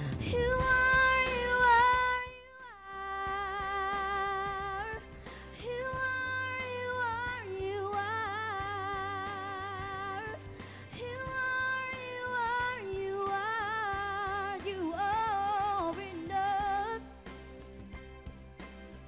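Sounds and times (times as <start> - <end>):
girl singing into microphone: 0.0 - 17.0
soft musical accompaniment: 0.0 - 19.0.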